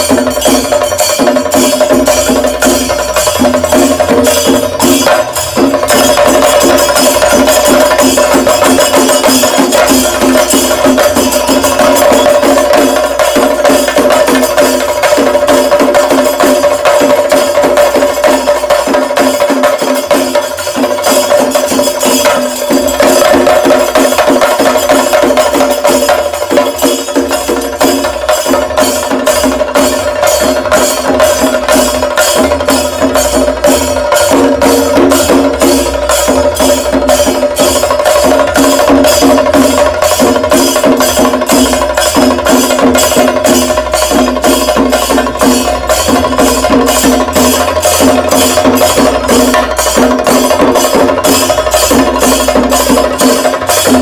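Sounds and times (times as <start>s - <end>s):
drums beaten in fast rolls: 0.0s - 54.0s
hand cymbals keeping time: 0.0s - 54.0s
steady drum beat: 0.0s - 54.0s.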